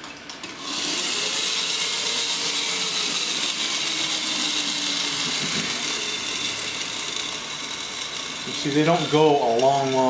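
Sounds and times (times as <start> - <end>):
toy spring motor whirring: 0.6 - 10.0.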